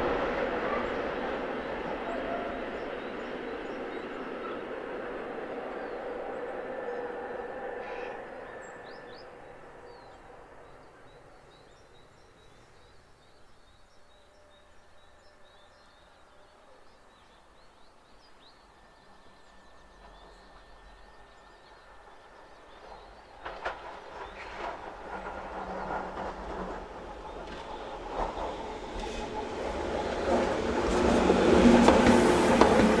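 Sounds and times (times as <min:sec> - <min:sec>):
train approaching: 0:00.0 - 0:33.0.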